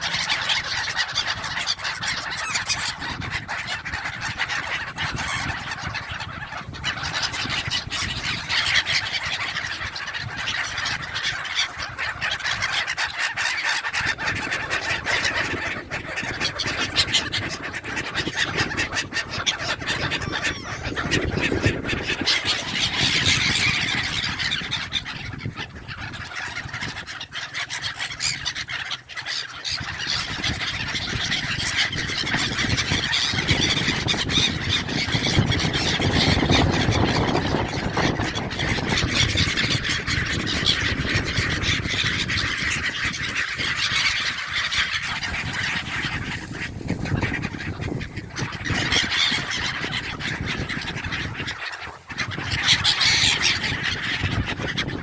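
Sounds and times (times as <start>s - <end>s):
seabirds calling: 0.0s - 55.0s.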